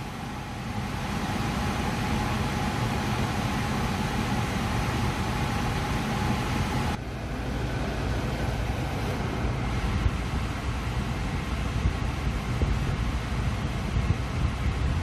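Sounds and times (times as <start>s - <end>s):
car interior rumble and hiss: 0.0s - 15.0s.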